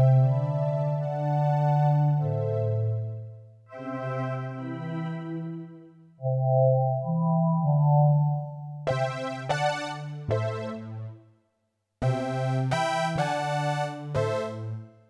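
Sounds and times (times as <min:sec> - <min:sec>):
keyboard playing chords: 0:00.0 - 0:11.2, 0:12.0 - 0:15.0.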